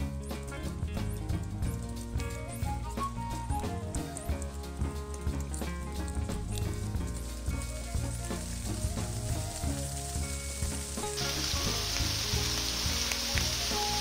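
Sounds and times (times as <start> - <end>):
background music: 0.0 - 14.0
steady high hiss: 0.0 - 14.0.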